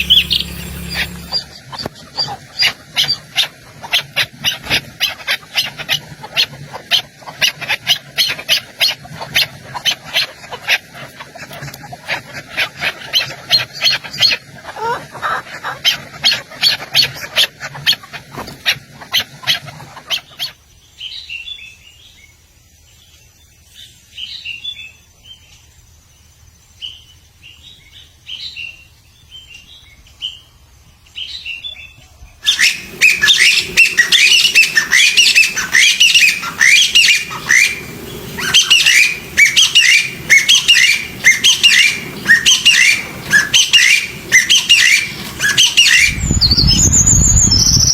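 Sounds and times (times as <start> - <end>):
songbirds calling: 0.0 - 47.9.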